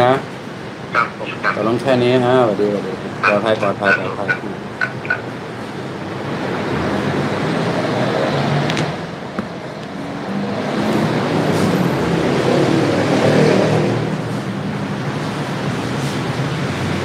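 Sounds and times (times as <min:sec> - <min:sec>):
engine hum: 0:00.0 - 0:17.0
road traffic noise: 0:00.0 - 0:17.0.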